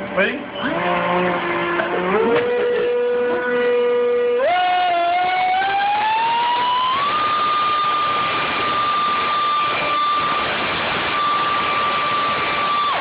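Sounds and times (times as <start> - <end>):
fan whining: 0.0 - 13.0.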